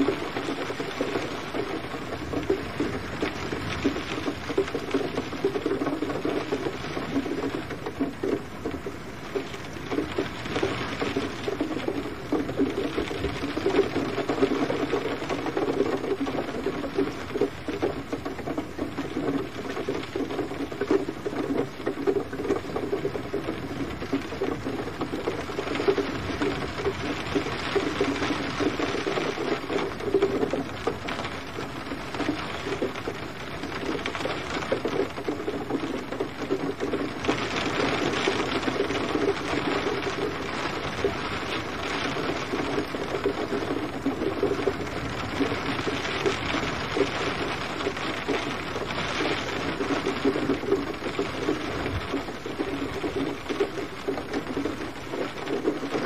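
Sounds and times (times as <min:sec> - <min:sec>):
steady gentle rain: 0:00.0 - 0:56.0.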